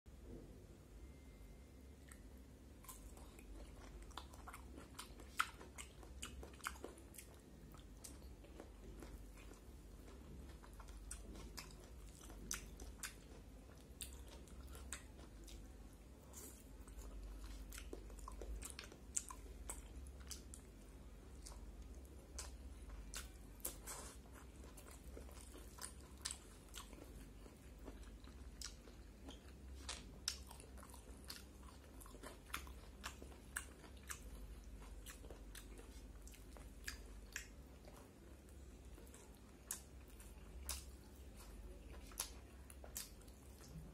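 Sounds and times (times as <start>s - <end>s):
faint low hum: 0.1s - 43.9s
wet chewing and lip smacks: 2.0s - 43.9s.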